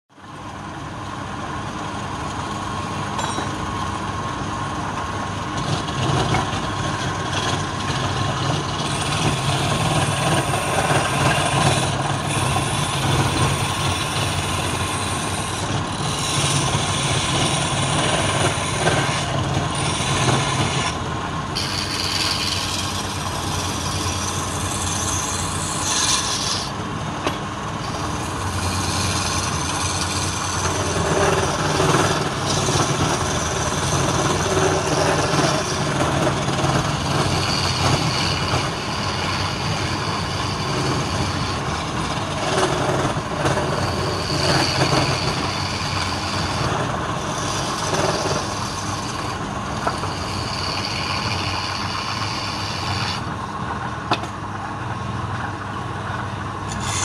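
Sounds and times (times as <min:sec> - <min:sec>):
lathe motor humming: 0:00.3 - 0:55.0, 0:56.0 - 0:57.0
chisel scraping spinning wood: 0:05.4 - 0:54.3, 0:56.6 - 0:57.0.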